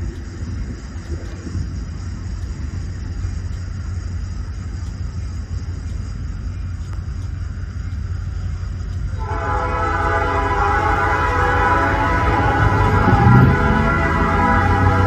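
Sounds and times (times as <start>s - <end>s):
diesel freight train rumbling: 0.0s - 15.0s.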